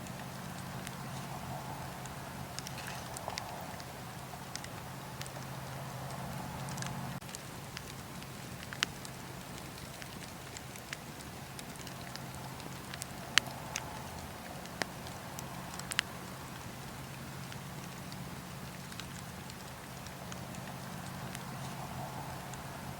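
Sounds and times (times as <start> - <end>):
low steady rumble: 0.0 - 22.9
wood fire crackling: 0.0 - 22.9.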